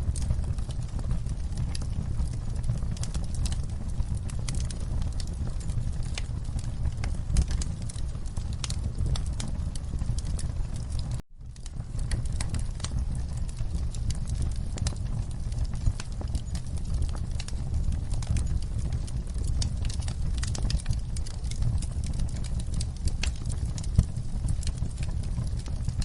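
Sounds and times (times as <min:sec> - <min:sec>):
burning logs rumbling: 0:00.0 - 0:26.0
fire pops and snaps: 0:00.0 - 0:26.0.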